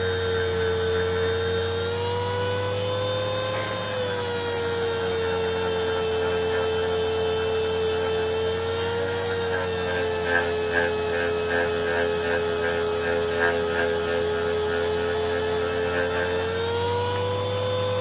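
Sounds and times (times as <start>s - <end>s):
sander grinding on metal: 0.0s - 18.0s.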